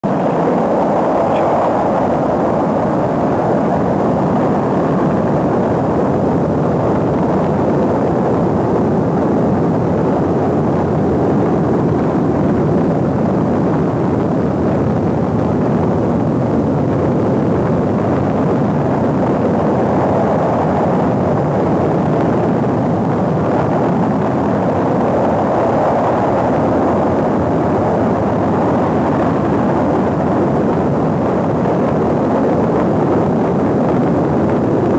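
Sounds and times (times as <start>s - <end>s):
rocket engine roaring: 0.0s - 34.9s.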